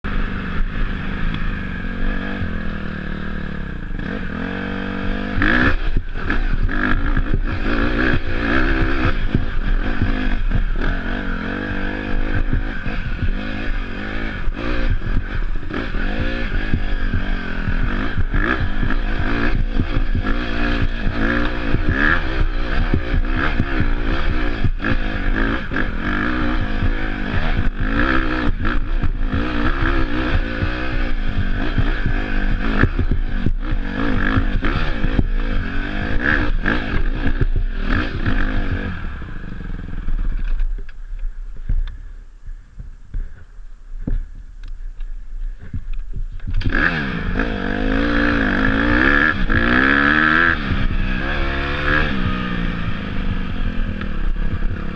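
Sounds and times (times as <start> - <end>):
dirt bike engine revving: 0.0 - 42.1, 45.4 - 54.9.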